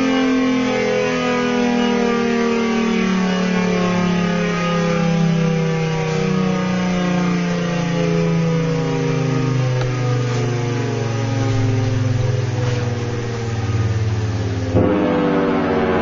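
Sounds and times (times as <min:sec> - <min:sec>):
pulsing tornado siren chord: 0:00.0 - 0:16.0.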